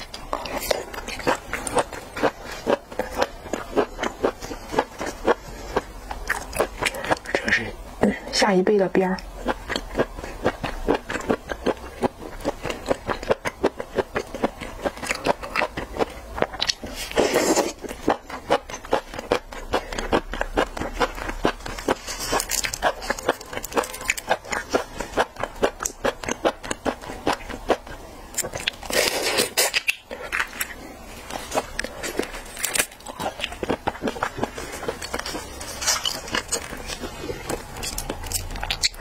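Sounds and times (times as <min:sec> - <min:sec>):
chewing with wet mouth clicks: 0:00.0 - 0:07.6, 0:09.2 - 0:39.0.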